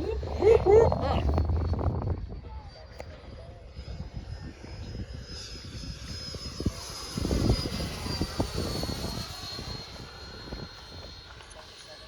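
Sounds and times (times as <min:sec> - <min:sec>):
wind buffeting microphone: 0:00.0 - 0:11.2
model jet engine whine: 0:00.0 - 0:12.0.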